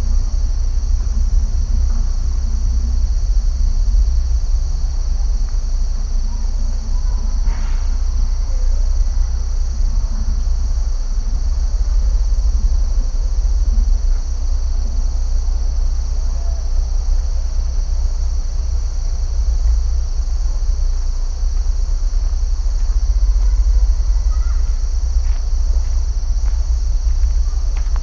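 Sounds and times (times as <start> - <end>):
crickets chirping: 0.0 - 28.0
low rumble: 0.0 - 28.0.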